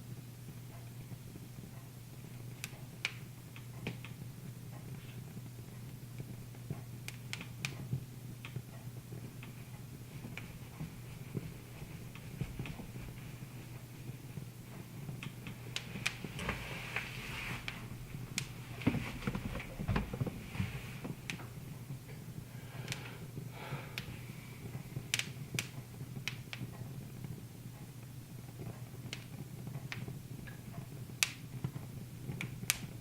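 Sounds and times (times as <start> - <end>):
steady low hum: 0.0 - 33.0
wood fire crackling: 0.0 - 33.0.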